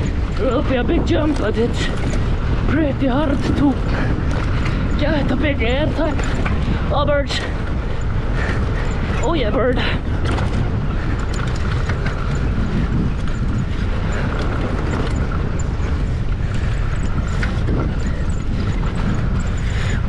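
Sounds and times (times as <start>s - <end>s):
bike clicks: 0.0s - 20.0s
wind on microphone: 0.0s - 20.0s.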